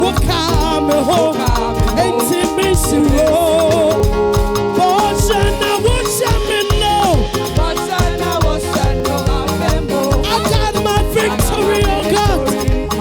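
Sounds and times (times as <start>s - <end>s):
upbeat praise music with singing: 0.0s - 13.0s.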